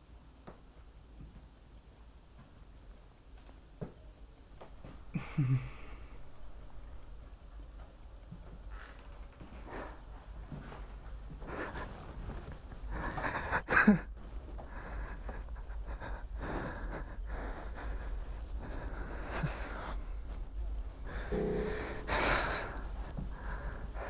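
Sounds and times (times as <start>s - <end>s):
clock ticking: 0.0s - 24.0s.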